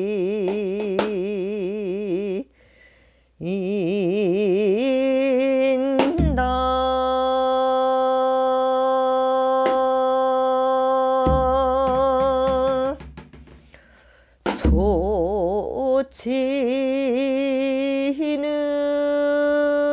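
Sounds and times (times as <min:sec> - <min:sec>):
woman singing with vibrato: 0:00.0 - 0:02.5, 0:03.4 - 0:13.0, 0:14.5 - 0:19.9.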